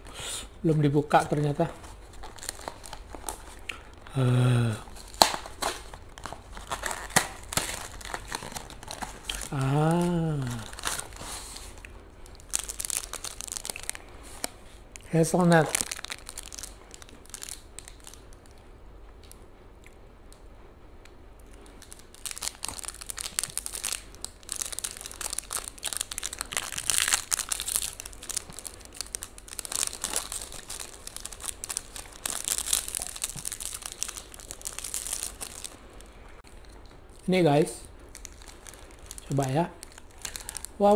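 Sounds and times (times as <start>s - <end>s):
wrapper crinkling and tearing: 0.8s - 18.6s, 21.6s - 37.4s, 38.0s - 40.9s.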